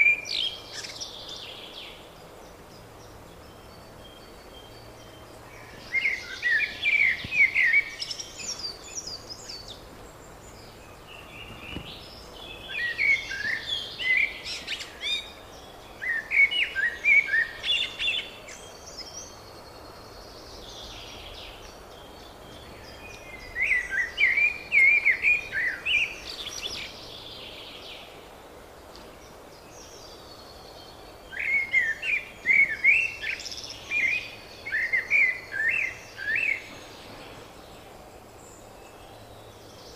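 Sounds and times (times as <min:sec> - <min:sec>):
outdoor background noise: 0:00.0 - 0:39.9
songbirds singing: 0:00.0 - 0:39.9.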